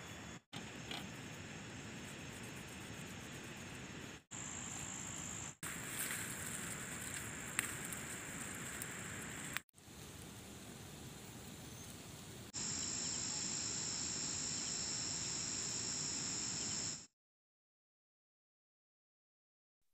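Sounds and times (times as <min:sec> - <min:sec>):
faint outdoor hiss: 0:00.0 - 0:17.0
insects droning: 0:00.6 - 0:17.1.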